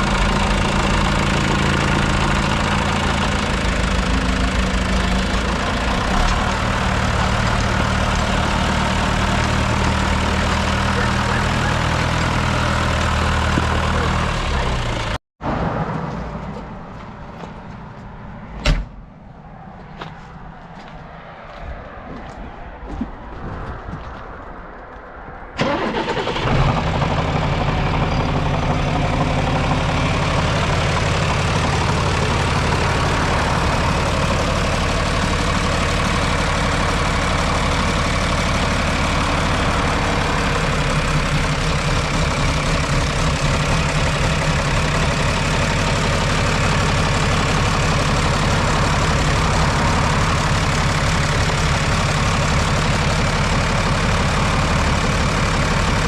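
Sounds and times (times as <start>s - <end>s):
tractor diesel engine idling: 0.0s - 15.2s, 25.6s - 56.0s.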